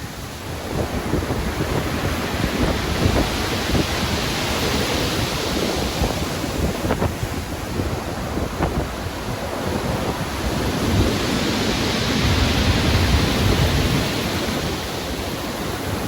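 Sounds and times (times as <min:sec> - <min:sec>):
heavy ocean waves breaking: 0:00.0 - 0:16.0
wind: 0:00.0 - 0:16.0.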